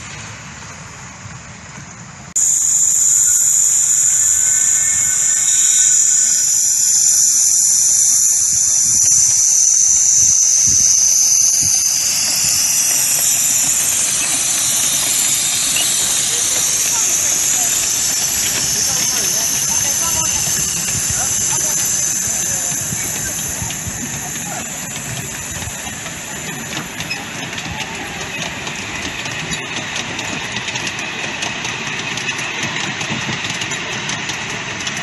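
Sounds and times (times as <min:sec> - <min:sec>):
steam locomotive hissing steam: 0:00.0 - 0:35.0.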